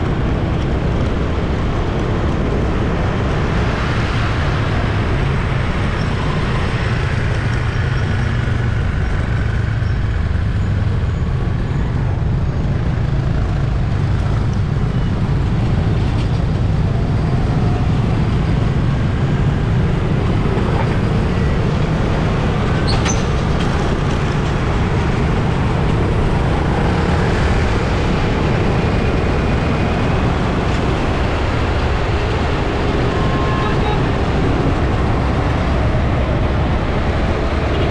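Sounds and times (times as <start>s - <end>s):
traffic rumble: 0.0s - 37.9s.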